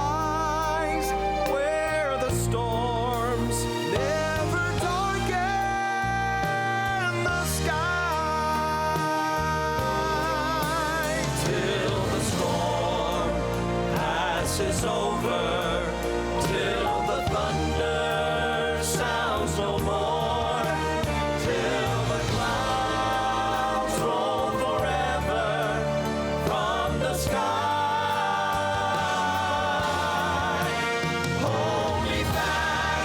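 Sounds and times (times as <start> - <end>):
instrumental backing music: 0.0 - 33.0
male quartet singing in harmony: 0.0 - 33.0.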